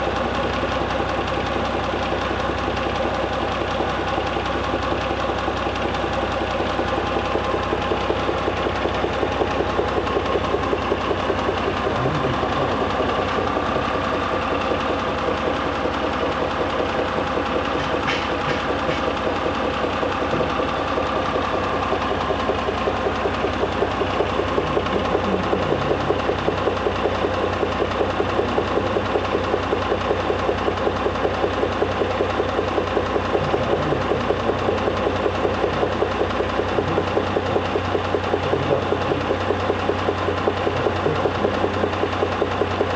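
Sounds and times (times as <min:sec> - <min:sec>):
car engine idling: 0:00.0 - 0:42.9
rhythmic engine knock: 0:00.0 - 0:42.9.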